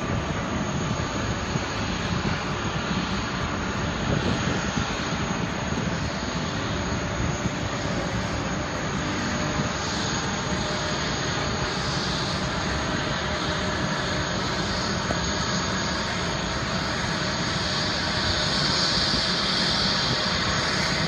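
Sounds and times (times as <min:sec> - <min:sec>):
high whine: 0:00.0 - 0:21.0
jet engine noise: 0:00.0 - 0:21.0.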